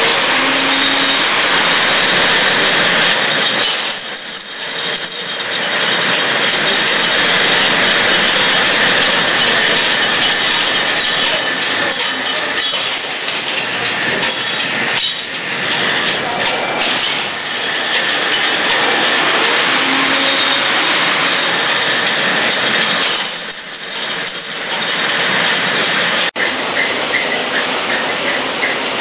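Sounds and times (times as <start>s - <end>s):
textile machinery din: 0.0s - 29.0s.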